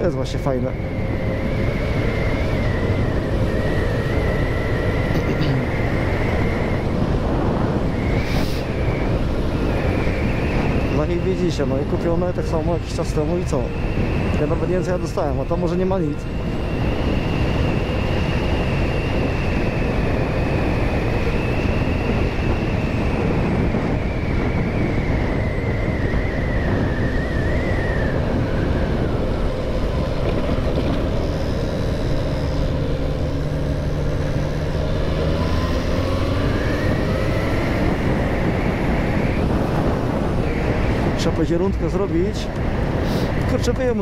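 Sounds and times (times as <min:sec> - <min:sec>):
high whine: 0:00.0 - 0:44.0
wind and road noise: 0:00.0 - 0:44.0.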